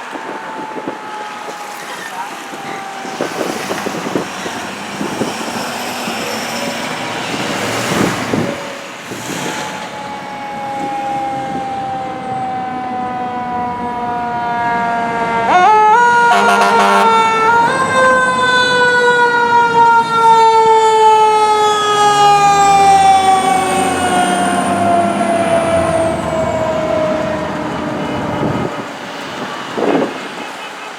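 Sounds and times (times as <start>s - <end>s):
mechanical fire truck siren wailing: 0.0s - 30.6s.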